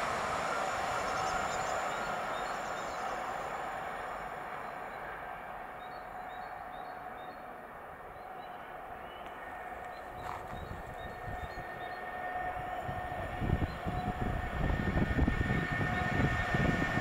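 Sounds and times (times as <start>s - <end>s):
train rolling away: 0.0s - 17.0s.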